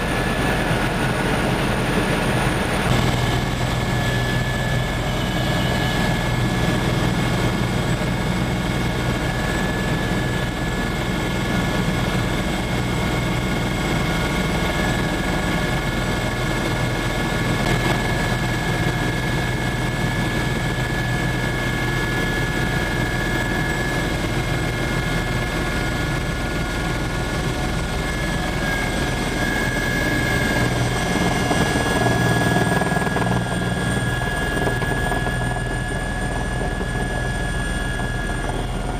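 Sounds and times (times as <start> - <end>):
helicopter rotor and turbine drone: 0.0 - 38.9.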